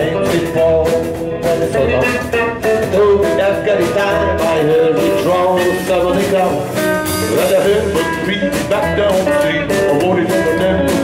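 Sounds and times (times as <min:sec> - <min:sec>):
live band music: 0:00.0 - 0:11.0
melodic lead line: 0:00.0 - 0:11.0
steady drum beat: 0:00.0 - 0:11.0.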